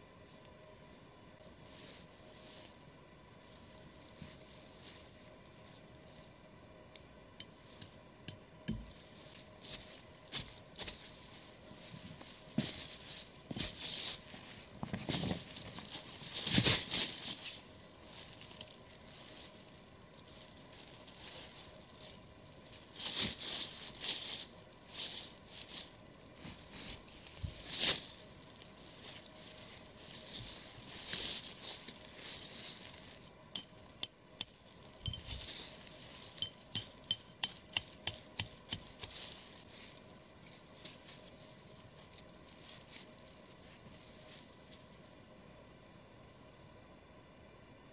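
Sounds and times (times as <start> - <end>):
canvas sheet being handled: 1.4 - 6.4, 8.8 - 45.0
dry leaves rustling and crunching: 1.5 - 6.4, 8.7 - 45.1.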